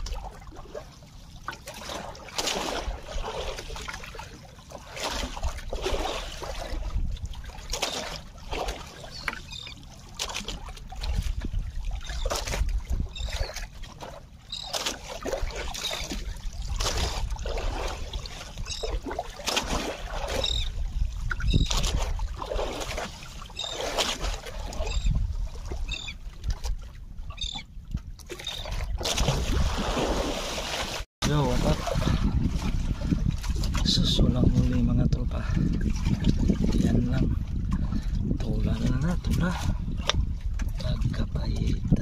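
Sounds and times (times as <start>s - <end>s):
water splashing against boat hull: 0.0s - 42.0s.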